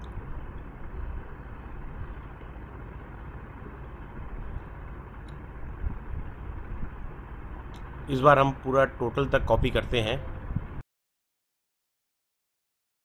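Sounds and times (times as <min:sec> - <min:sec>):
low rumble and hiss: 0:00.0 - 0:10.8.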